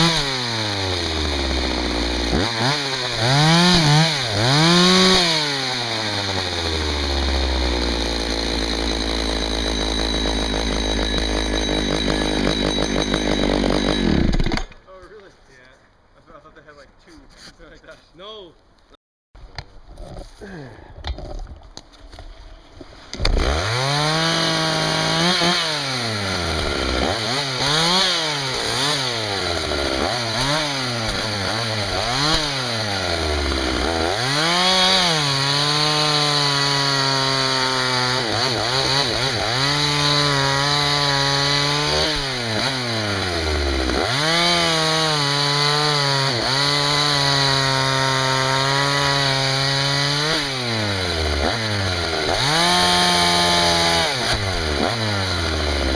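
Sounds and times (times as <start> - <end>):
chainsaw revving and cutting wood: 0.0 - 14.8, 23.2 - 55.9.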